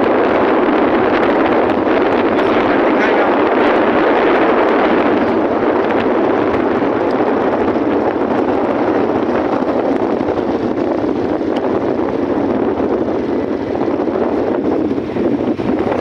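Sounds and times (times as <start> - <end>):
vehicle and tyre noise on wet road: 0.0 - 16.0
wind rushing on microphone: 0.0 - 16.0.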